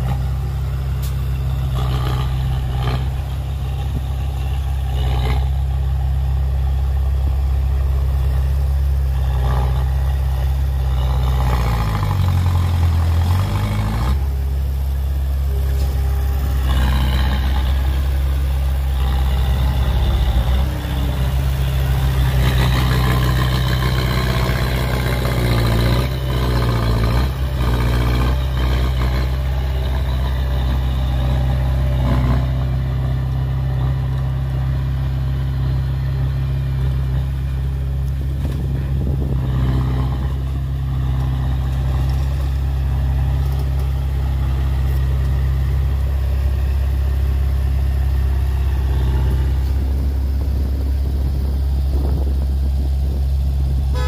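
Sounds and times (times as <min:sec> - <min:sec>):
heavy diesel engine under load: 0:00.0 - 0:54.0.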